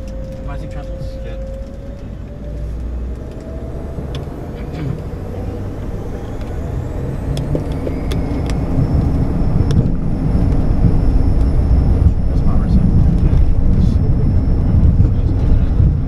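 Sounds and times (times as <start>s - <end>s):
faint engine whine rising in pitch: 0.0s - 16.0s
jet engines rumbling: 0.0s - 16.0s.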